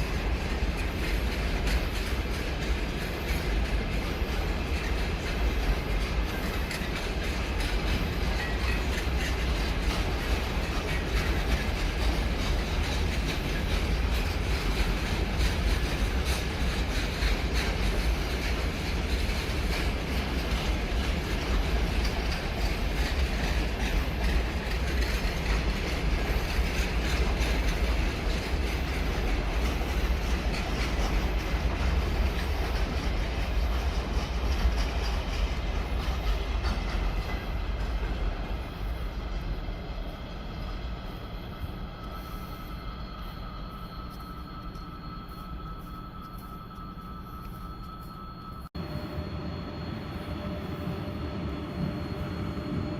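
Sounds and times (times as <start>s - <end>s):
train wheels clickety-clack: 0.0s - 52.9s.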